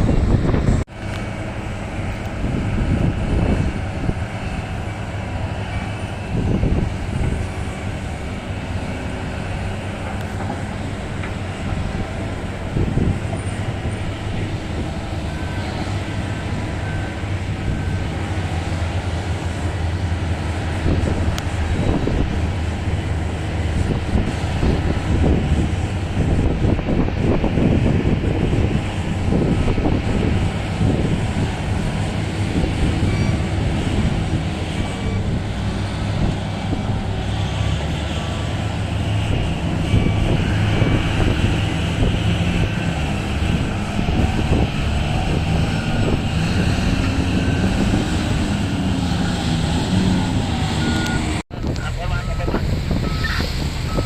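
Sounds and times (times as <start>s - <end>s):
large diesel engines running: 0.0s - 54.0s.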